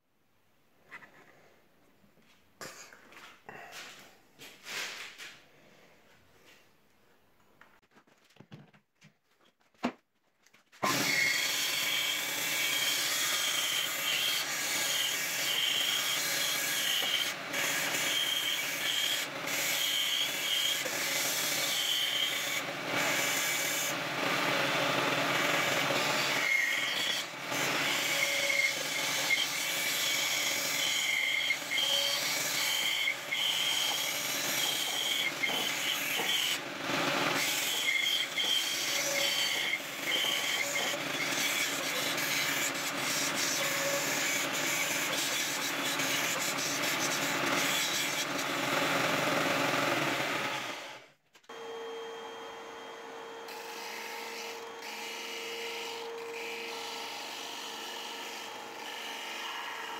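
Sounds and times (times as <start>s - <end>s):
bandsaw cutting wood: 10.8s - 59.9s.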